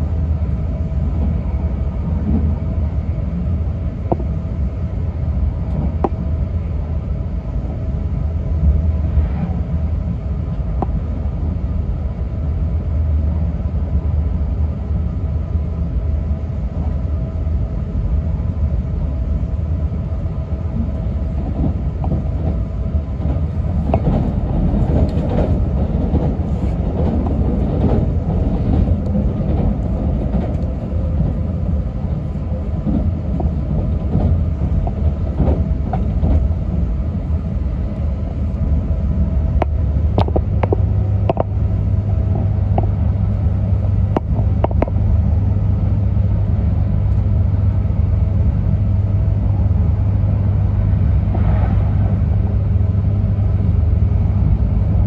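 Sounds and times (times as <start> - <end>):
faint hum: 0.0 - 55.0
train cabin rumble: 0.0 - 55.0.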